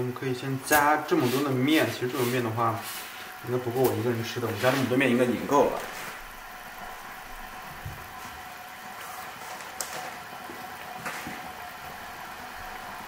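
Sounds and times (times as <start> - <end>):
water simmering hiss: 0.0 - 13.0.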